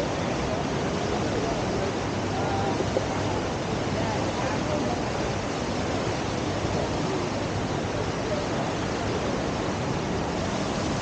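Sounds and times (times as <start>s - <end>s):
river water roaring: 0.0s - 11.0s.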